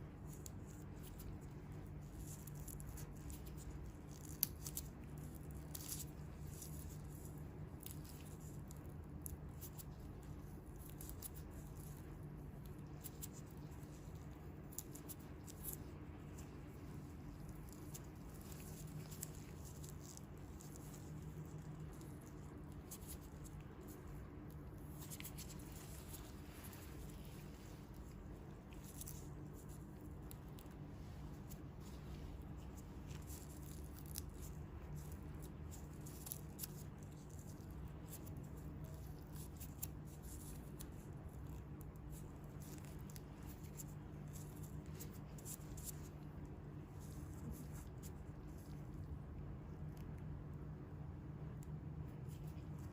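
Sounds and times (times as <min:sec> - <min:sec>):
low steady hum: 0:00.0 - 0:52.9
soft crackles and ticks of hands: 0:00.0 - 0:52.9.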